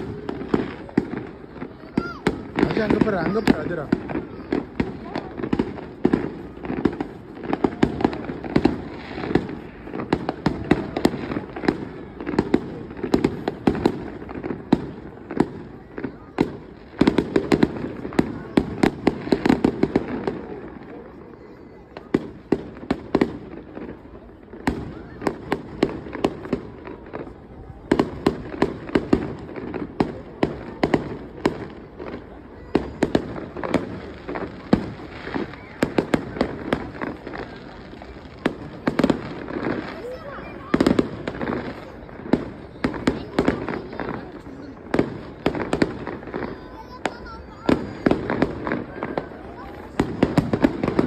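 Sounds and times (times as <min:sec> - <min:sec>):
fireworks bangs and cracks: 0:00.0 - 0:51.0.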